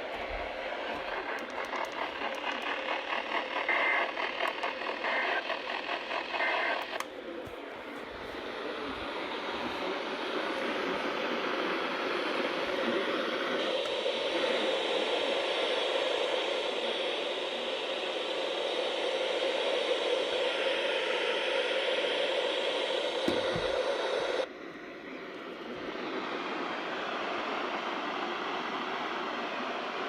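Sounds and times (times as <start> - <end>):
radio static hiss: 0.0 - 27.9
faint hum: 0.0 - 30.0.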